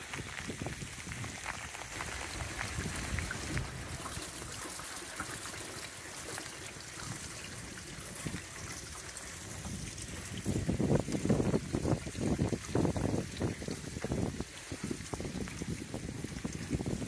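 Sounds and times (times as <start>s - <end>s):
rainwater trickling through pipe: 0.0s - 17.0s
water drips: 0.0s - 17.0s.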